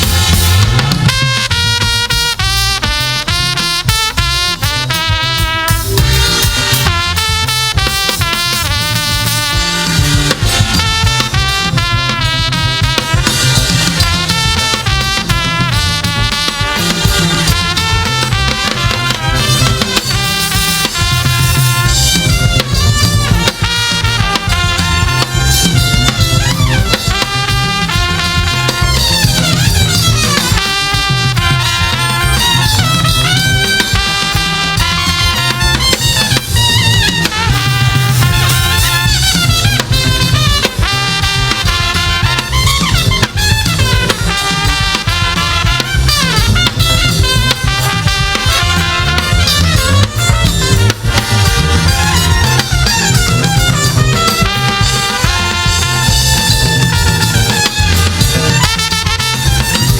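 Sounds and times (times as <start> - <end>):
brass horns: 0.0 - 59.9
drum kit: 0.0 - 59.9
gospel band playing: 0.0 - 59.9.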